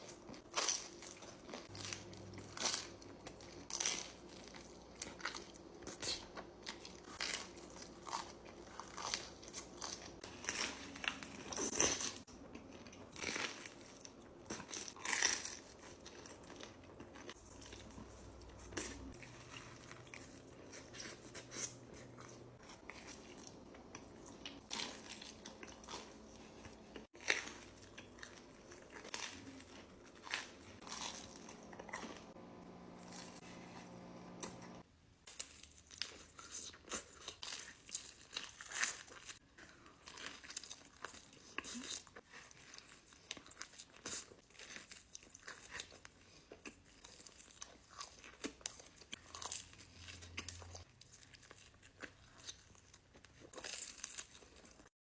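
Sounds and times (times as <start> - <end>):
chewing: 0.0 - 54.9.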